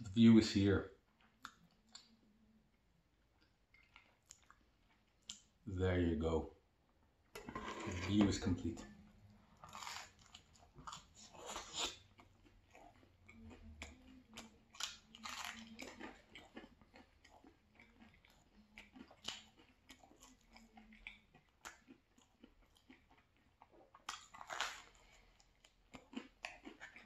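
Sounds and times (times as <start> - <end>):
person chewing pizza: 1.0 - 5.6, 7.9 - 27.0.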